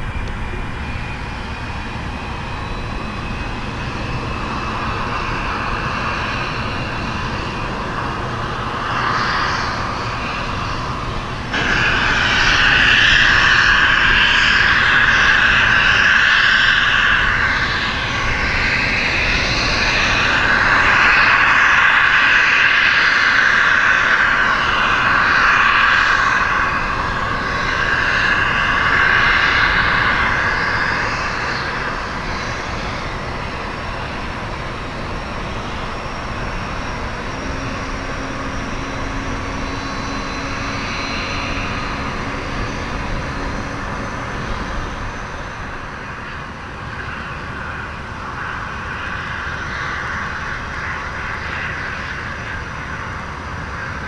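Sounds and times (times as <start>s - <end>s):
airliner jet engines whining: 0.0s - 54.0s.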